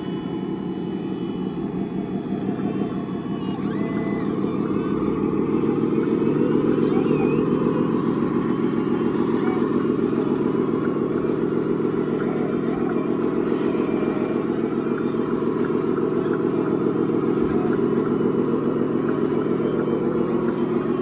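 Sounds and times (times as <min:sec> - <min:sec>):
model machine motor humming: 0:00.0 - 0:21.0.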